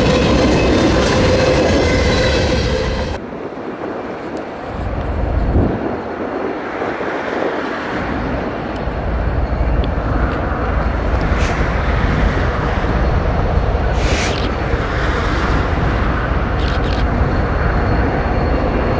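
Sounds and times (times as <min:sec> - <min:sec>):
freight train rolling past: 0:00.0 - 0:18.9.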